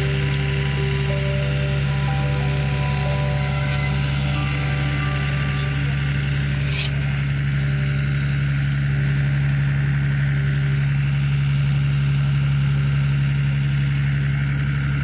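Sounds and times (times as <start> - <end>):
machine droning: 0.0 - 15.0.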